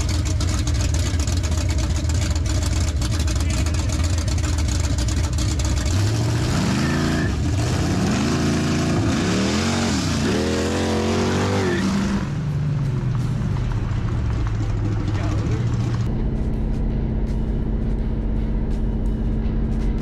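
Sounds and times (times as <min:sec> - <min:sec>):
car engines accelerating hard: 0:00.0 - 0:20.0.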